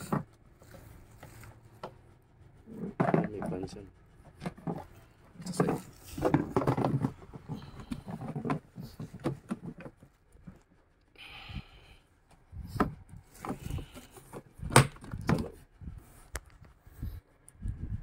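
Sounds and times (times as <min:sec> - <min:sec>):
scraping rustle: 0:00.0 - 0:11.0, 0:12.3 - 0:17.3.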